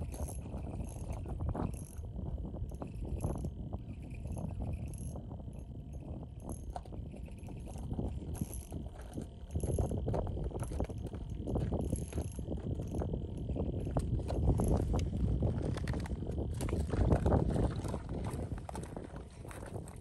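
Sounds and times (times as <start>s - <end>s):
fishing tackle clicking and rattling: 0.0s - 17.0s
wind buffeting microphone: 0.0s - 20.0s.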